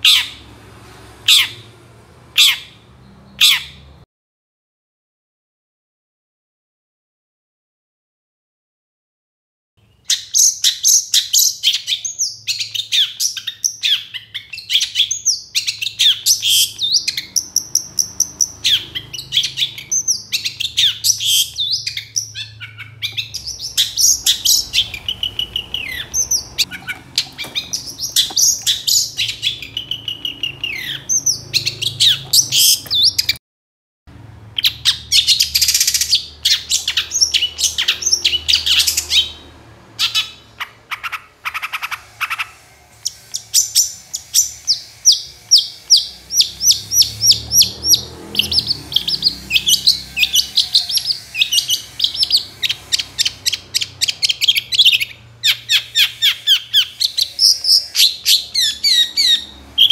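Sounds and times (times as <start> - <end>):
bird singing chirps and trills: 9.8 - 33.4, 34.6 - 59.9.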